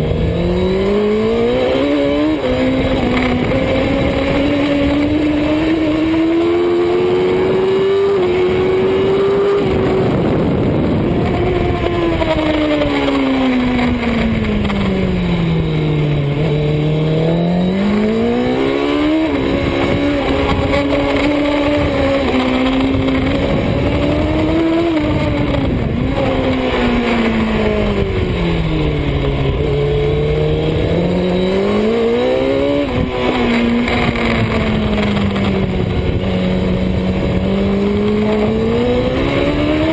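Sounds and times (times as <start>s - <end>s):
constant rush of noise: 0.0s - 39.9s
motorbike engine accelerating: 0.0s - 39.9s.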